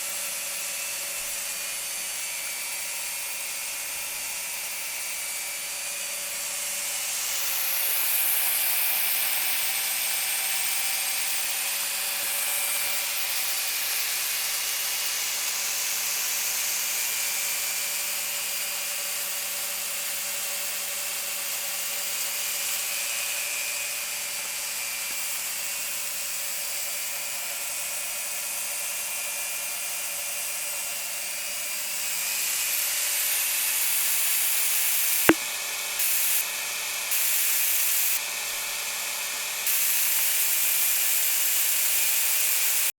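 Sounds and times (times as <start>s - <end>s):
electric dental drill humming: 0.0s - 35.4s, 36.0s - 42.9s.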